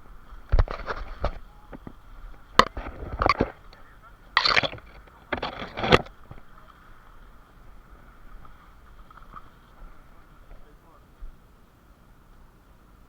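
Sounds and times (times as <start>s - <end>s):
rustling and scraping: 0.0s - 10.7s.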